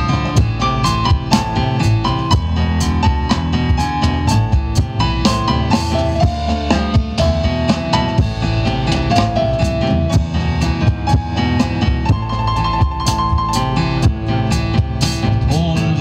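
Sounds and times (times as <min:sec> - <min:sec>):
cajon beating a rhythm: 0:00.0 - 0:16.0
double bass plucking: 0:00.0 - 0:16.0
electronic keyboard melody: 0:00.0 - 0:16.0.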